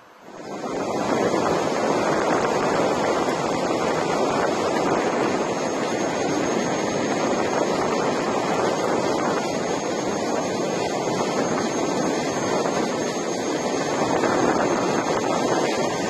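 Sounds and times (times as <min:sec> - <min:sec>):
faint high whine: 0:00.0 - 0:16.0
wind on microphone: 0:00.2 - 0:16.0.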